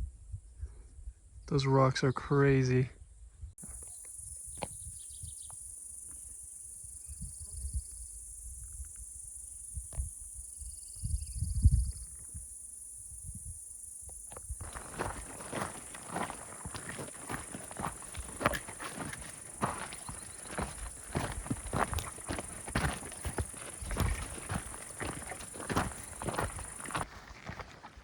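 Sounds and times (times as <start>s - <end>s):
insects buzzing high-pitched: 3.6s - 27.1s
insect pulsed trills: 3.6s - 27.4s.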